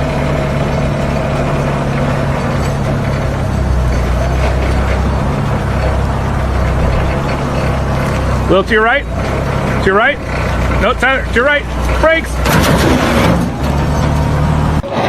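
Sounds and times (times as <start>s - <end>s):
forklift engine hum: 0.0s - 15.0s.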